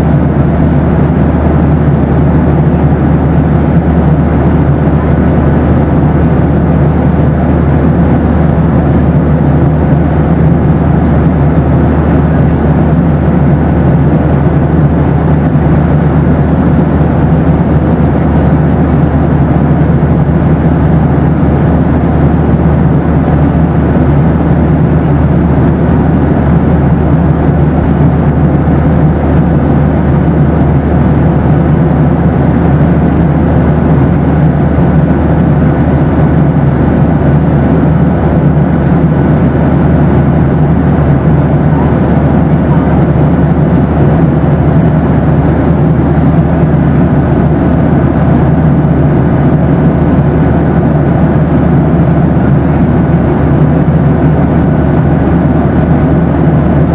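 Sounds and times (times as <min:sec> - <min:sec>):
airplane cabin engine rush: 0:00.0 - 0:56.9
faint hum tones: 0:00.0 - 0:56.9.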